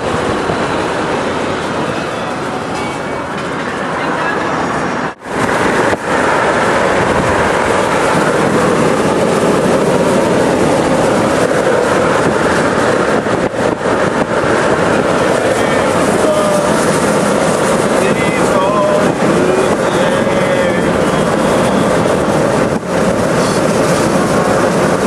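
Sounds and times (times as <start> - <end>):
moving vehicle rumbling: 0.0 - 25.0.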